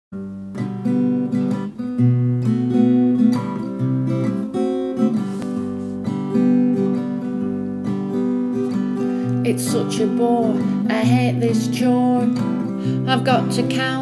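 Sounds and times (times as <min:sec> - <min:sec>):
acoustic guitar strumming: 0:00.2 - 0:14.0.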